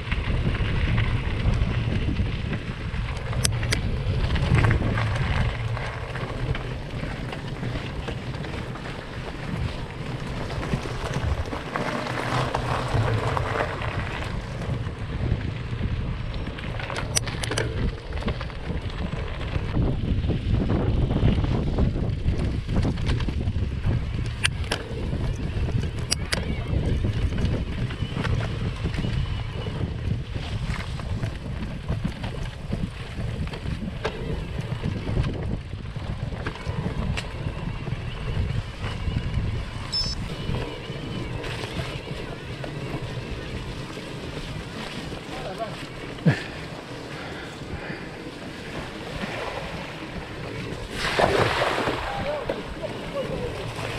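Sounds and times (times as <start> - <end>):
sharp clicks from bike: 0.0 - 48.0
bike tyres rumbling on gravel: 0.0 - 53.9
wind buffeting microphone: 0.0 - 53.9.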